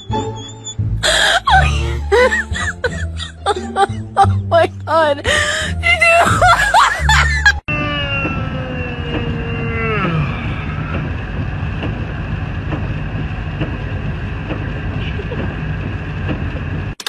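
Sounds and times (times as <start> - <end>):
truck cab rumble while driving: 0.0 - 17.0.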